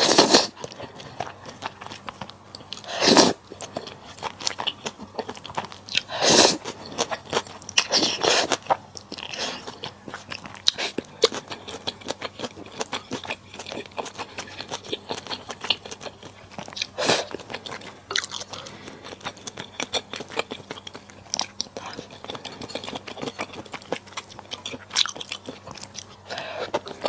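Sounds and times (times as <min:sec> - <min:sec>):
wet chewing and crunching: 0:00.0 - 0:27.0.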